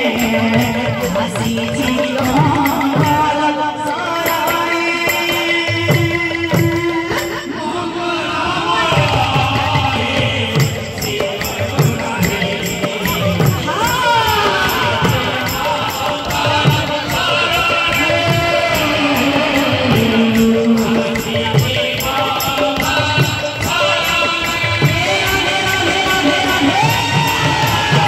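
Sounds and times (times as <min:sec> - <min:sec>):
hand drums beating: 0:00.0 - 0:07.7, 0:08.5 - 0:28.0
jingling metallic beat: 0:00.0 - 0:28.0
person chanting a song: 0:00.0 - 0:28.0.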